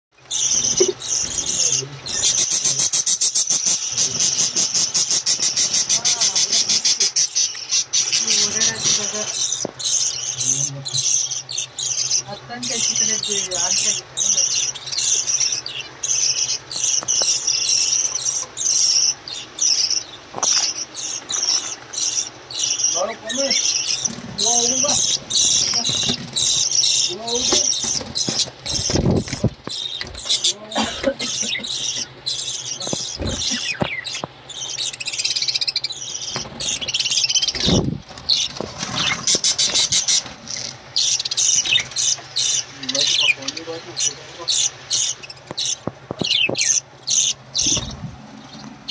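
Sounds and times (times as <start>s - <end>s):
budgerigars chattering: 0.2s - 48.9s.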